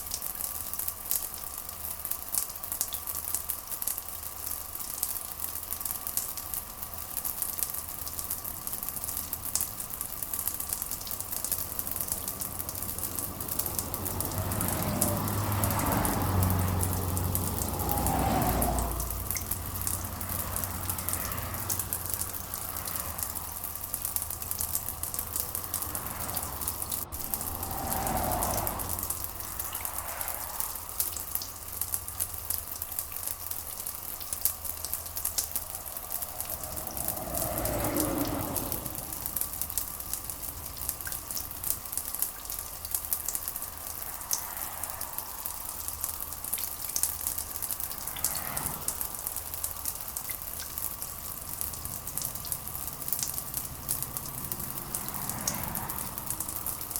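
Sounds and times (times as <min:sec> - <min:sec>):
rain pattering: 0:00.0 - 0:56.9.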